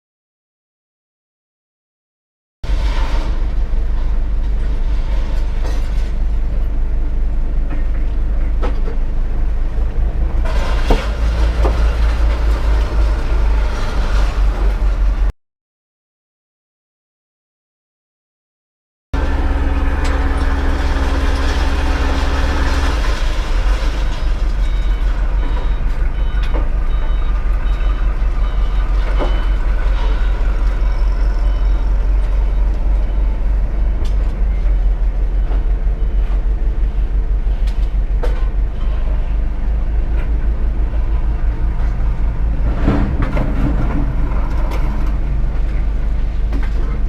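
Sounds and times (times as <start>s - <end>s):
vehicle engine rumbling: 2.6s - 15.3s, 19.2s - 47.0s.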